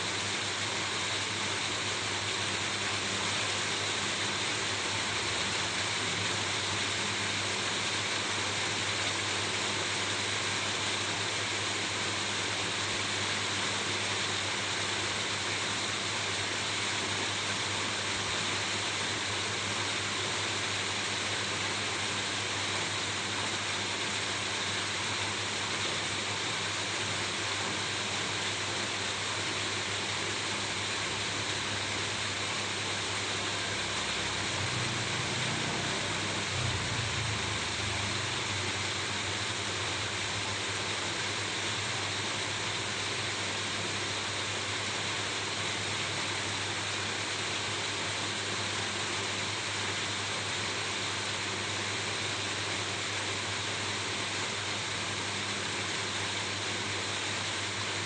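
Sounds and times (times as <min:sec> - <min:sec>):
steady rain on a roof: 0:00.0 - 0:58.0.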